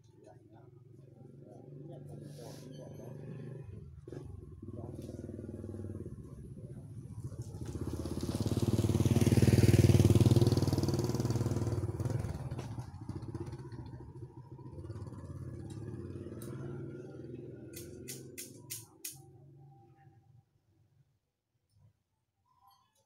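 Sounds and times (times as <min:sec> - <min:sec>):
motorbike passing by: 0:00.3 - 0:19.9.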